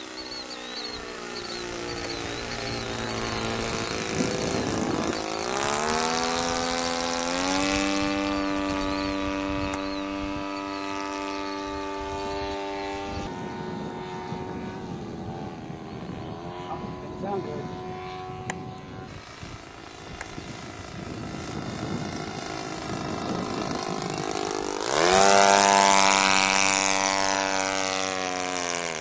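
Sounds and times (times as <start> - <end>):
model airplane engine buzzing: 0.0 - 29.0.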